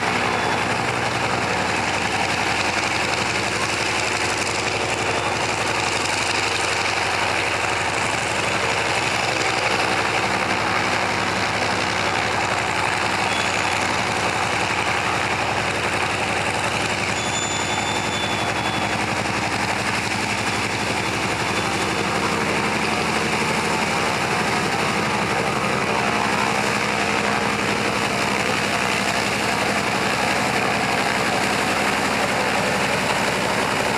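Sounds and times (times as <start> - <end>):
radial aircraft engine running: 0.0 - 33.9.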